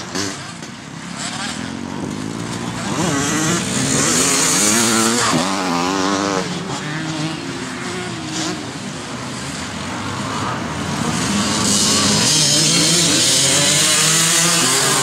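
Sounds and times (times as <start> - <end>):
distant motorbike engines: 0.0 - 15.0
motocross bike engine revving: 0.0 - 15.0.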